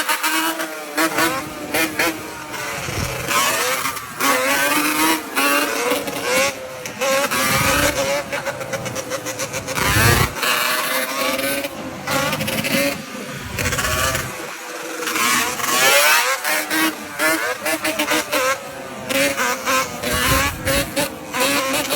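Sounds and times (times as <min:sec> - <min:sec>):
motorcycle engines revving: 0:00.0 - 0:21.9.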